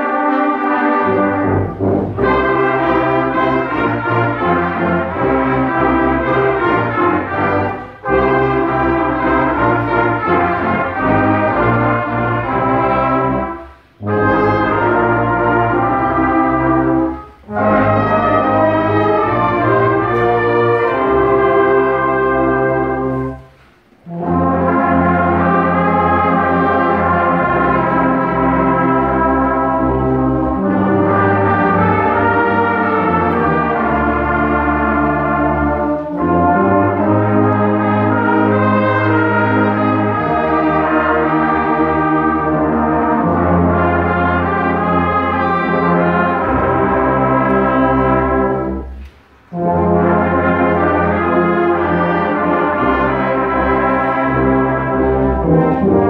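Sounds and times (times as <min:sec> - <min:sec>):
brass band playing chorale: 0:00.0 - 0:56.0.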